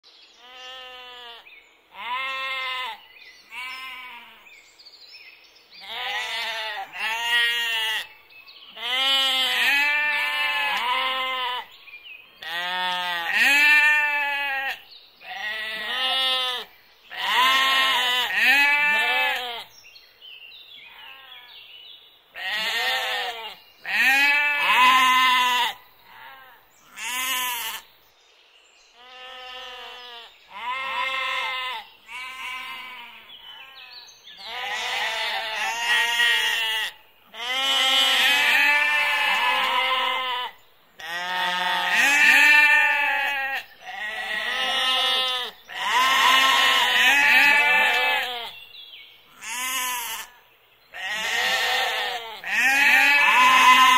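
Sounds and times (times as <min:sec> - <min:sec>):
sheep bleating: 0:00.4 - 0:04.4, 0:05.8 - 0:08.1, 0:08.7 - 0:11.7, 0:12.4 - 0:19.7, 0:22.4 - 0:27.8, 0:29.0 - 0:48.6, 0:49.3 - 0:53.9.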